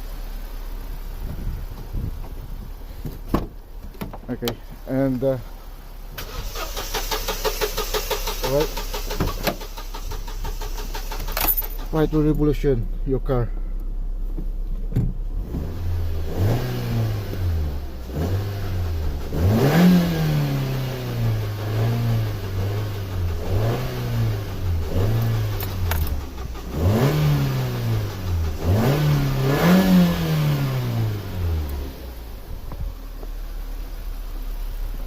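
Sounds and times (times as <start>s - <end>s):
car engine revving: 4.3s - 13.4s, 14.8s - 35.0s.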